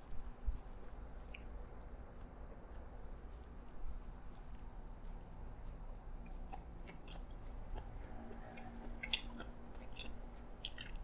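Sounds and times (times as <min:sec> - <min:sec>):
wet chewing mouth clicks: 0:00.0 - 0:11.0.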